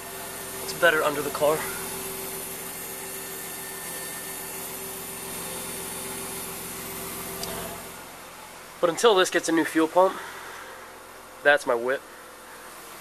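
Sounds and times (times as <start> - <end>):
electric fuel pump whirring: 0.0 - 13.0.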